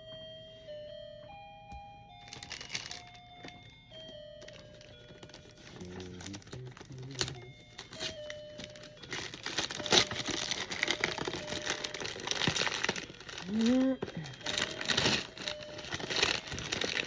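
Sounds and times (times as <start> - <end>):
gift wrapping crinkling and tearing: 2.2 - 3.7, 4.3 - 17.0.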